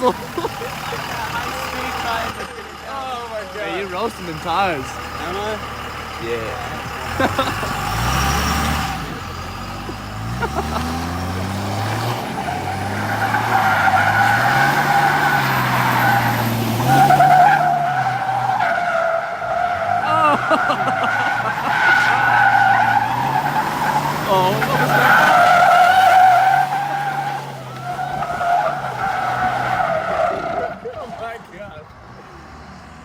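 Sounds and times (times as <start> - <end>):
diesel engine revving: 0.0 - 33.0
tires squealing: 0.0 - 33.0.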